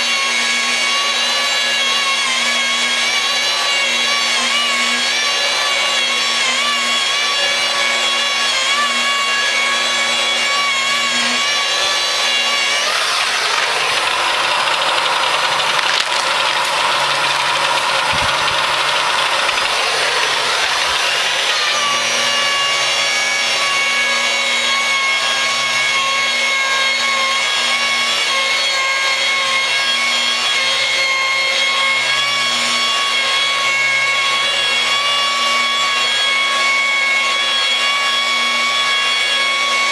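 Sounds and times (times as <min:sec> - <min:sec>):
rotary glass polisher whine: 0:00.0 - 0:39.9.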